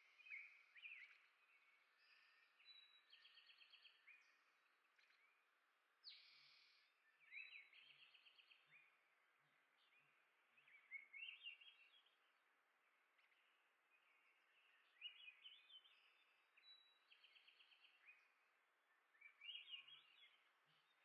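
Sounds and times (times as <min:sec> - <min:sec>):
songbird chirps: 0:00.0 - 0:21.0.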